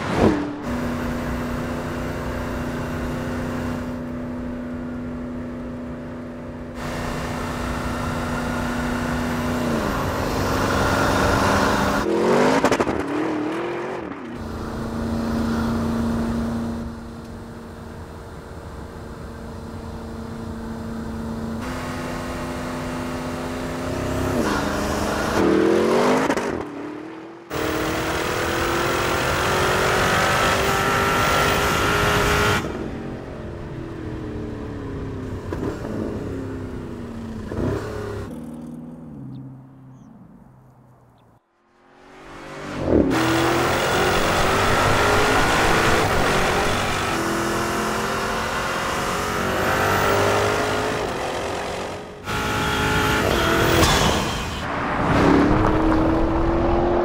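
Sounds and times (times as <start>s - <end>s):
car engine and exhaust revving: 0.0s - 57.0s.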